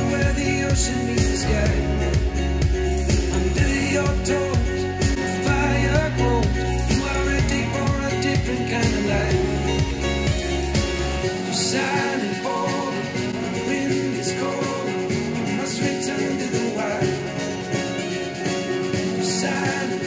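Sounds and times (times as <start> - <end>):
song with singing through speakers: 0.0 - 20.0.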